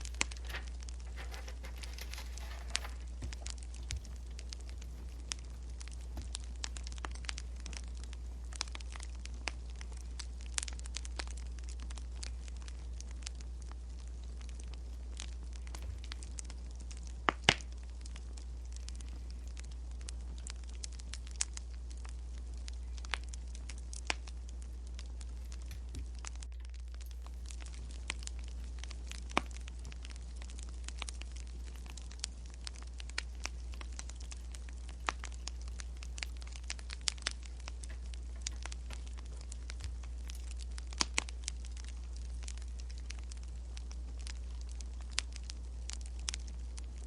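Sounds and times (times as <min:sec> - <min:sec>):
steady low hum: 0:00.0 - 0:47.0
wood fire crackling and popping: 0:00.0 - 0:47.0.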